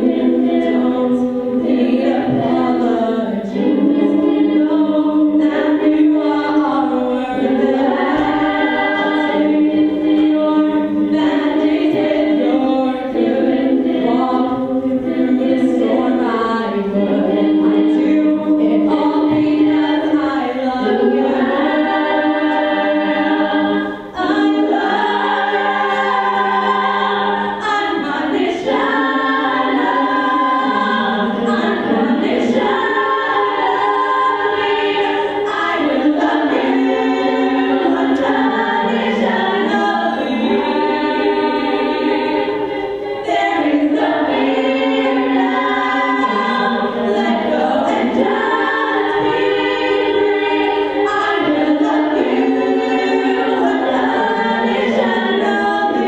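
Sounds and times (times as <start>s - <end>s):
women singing a cappella: 0.0s - 56.0s.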